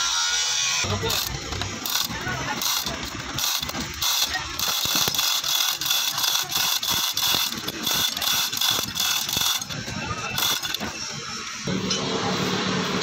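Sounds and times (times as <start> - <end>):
hoist ratcheting: 0.8 - 11.6.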